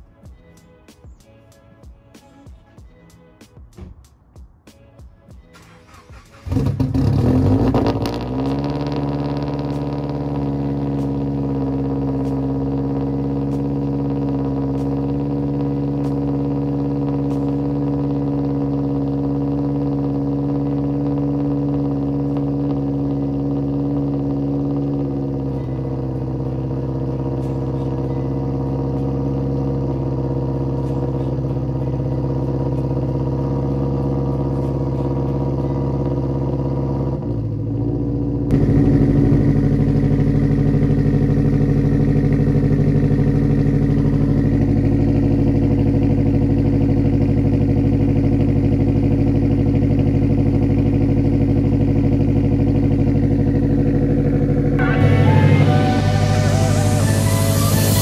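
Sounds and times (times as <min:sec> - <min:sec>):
car engine idling: 0:05.6 - 0:58.0.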